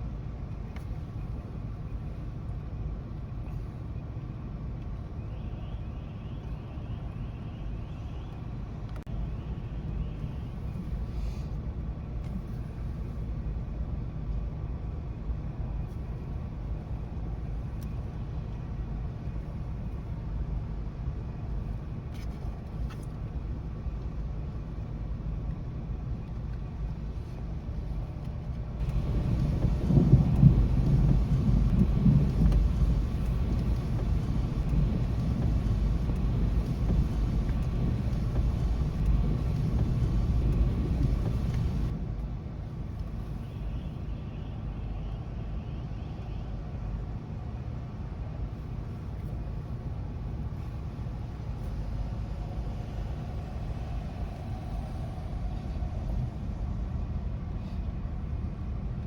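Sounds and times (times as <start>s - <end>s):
low outdoor rumble: 0.0s - 59.0s.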